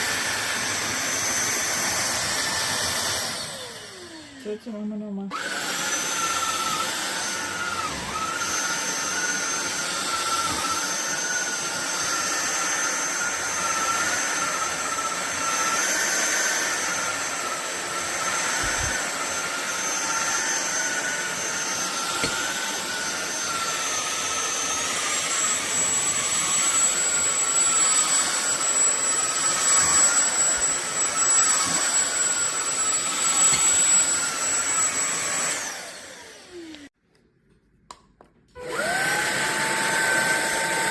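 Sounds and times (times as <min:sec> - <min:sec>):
vacuum motor spinning down: 0:00.0 - 0:04.7, 0:05.3 - 0:36.9, 0:38.6 - 0:40.9
stick vacuum running: 0:00.0 - 0:36.9, 0:38.6 - 0:40.9.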